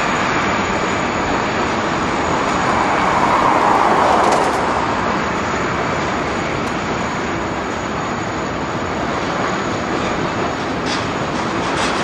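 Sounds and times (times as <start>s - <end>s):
train cars rolling on rails: 0.0s - 12.0s.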